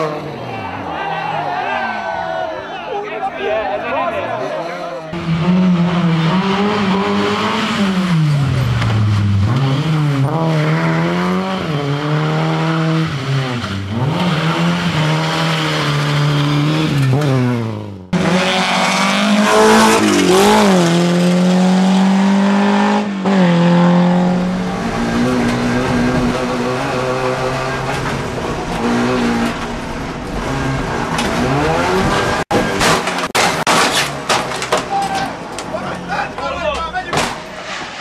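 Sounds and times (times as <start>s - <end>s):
racing car engines revving: 0.0s - 38.0s.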